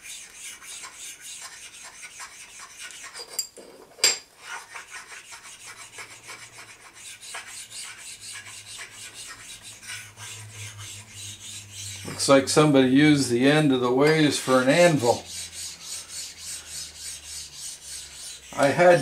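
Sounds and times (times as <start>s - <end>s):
stone rasping on metal: 0.0s - 3.5s, 4.4s - 13.2s, 14.0s - 19.0s.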